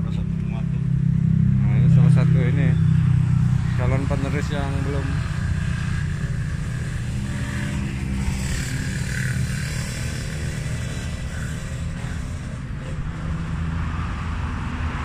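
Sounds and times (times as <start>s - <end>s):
low rumble of road traffic: 0.0s - 15.0s
vehicle engine passing: 0.0s - 15.0s.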